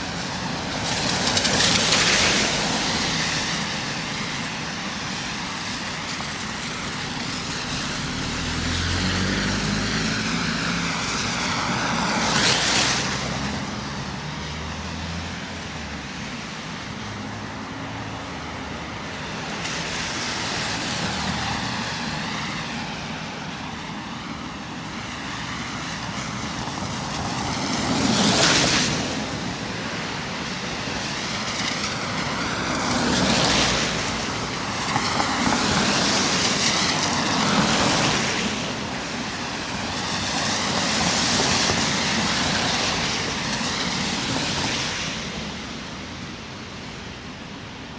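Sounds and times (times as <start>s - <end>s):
cars passing: 0.0s - 47.9s.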